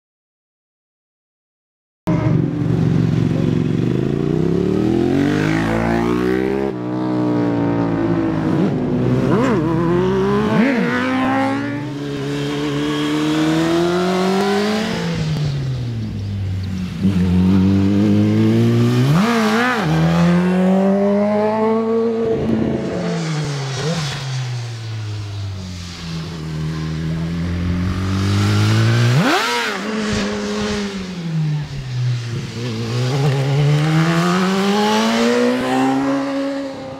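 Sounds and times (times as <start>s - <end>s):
motorcycle engines revving: 2.1s - 36.9s.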